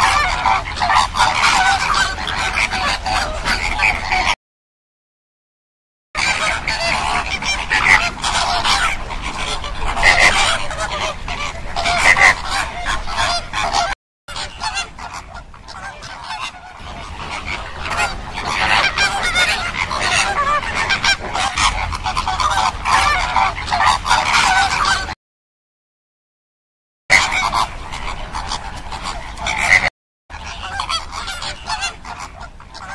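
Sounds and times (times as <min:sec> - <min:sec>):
flamingos honking: 0:00.0 - 0:04.4, 0:06.2 - 0:25.2, 0:27.1 - 0:32.9.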